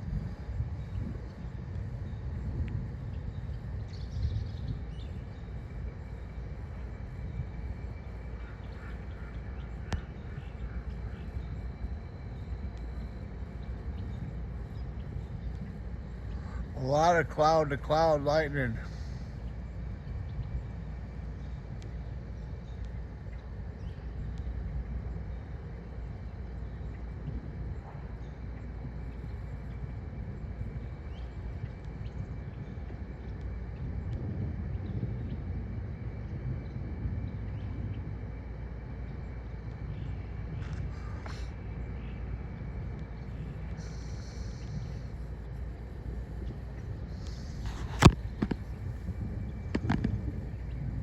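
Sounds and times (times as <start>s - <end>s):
low storm rumble: 0.0s - 51.0s
wind buffeting microphone: 0.0s - 51.0s.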